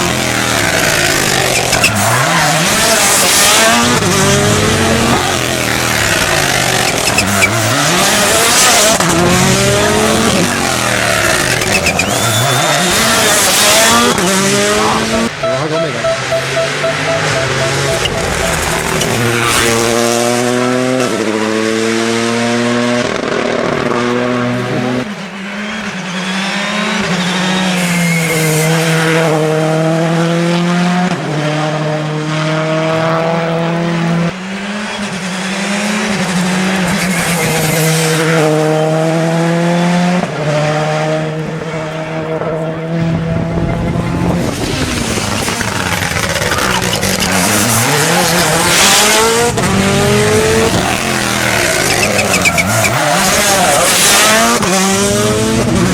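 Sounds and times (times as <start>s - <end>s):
rally car engines revving: 0.0s - 16.2s, 17.2s - 55.9s.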